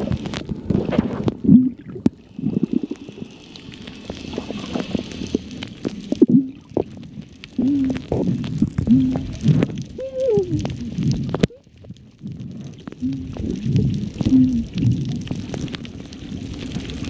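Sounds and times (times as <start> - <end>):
gurgling underwater rumble: 0.0 - 17.0
sharp underwater clicks: 0.0 - 17.0
soft hiss: 0.0 - 17.0.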